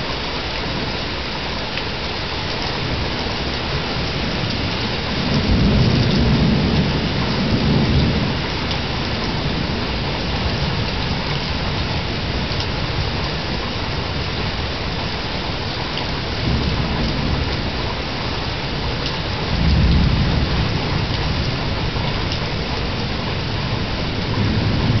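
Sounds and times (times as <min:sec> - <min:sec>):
heavy rain: 0:00.0 - 0:25.0
rolling thunder: 0:02.9 - 0:15.1, 0:16.1 - 0:25.0.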